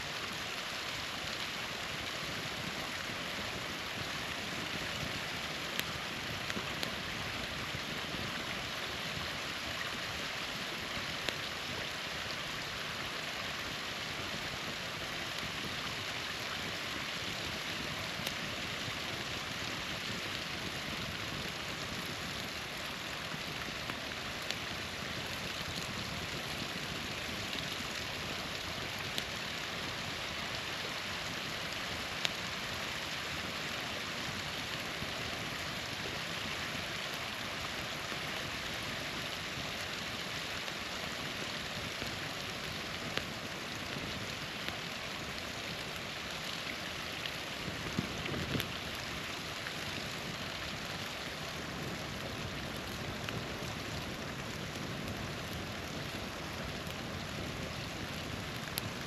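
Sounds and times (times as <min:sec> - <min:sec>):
campfire popping and crackling: 0:00.0 - 0:59.0
small waterfall rushing: 0:00.0 - 0:59.0.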